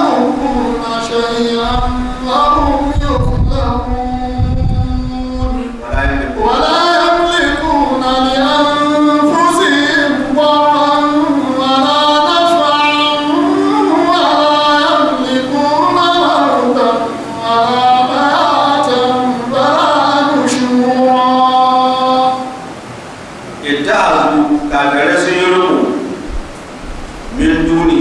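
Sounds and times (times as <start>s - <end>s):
person chanting melodically: 0.0s - 22.7s.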